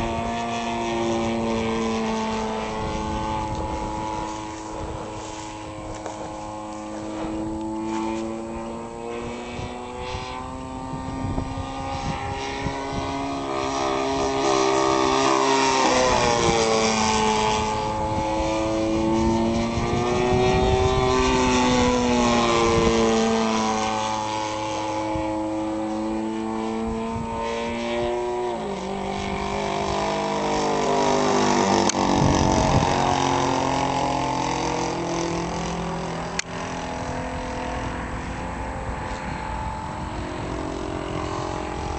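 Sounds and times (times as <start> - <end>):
propeller plane droning: 0.0 - 41.9.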